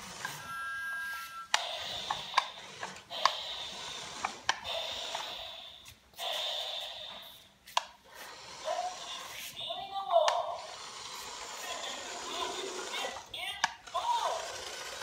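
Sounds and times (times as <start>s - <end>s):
toy electric motor whirring: 0.0s - 0.6s, 1.5s - 7.4s, 8.0s - 15.0s.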